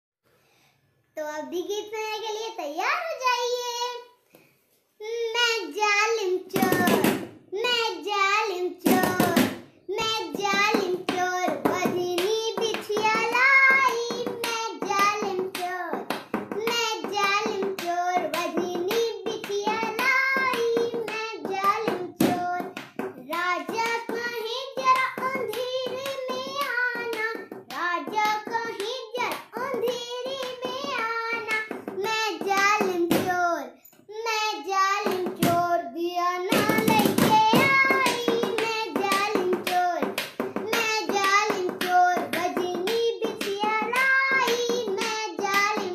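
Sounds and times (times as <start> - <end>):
girl singing folk song: 1.1 - 45.9.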